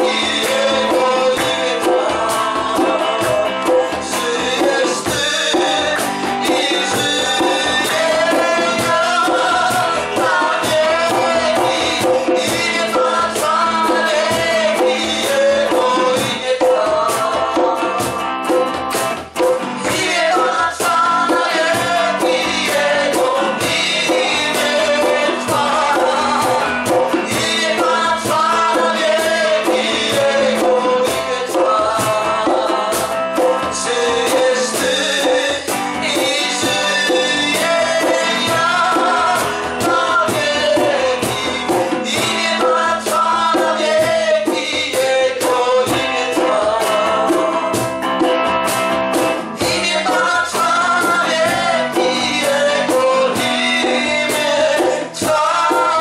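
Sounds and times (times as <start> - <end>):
worship song with band: 0.0 - 56.0.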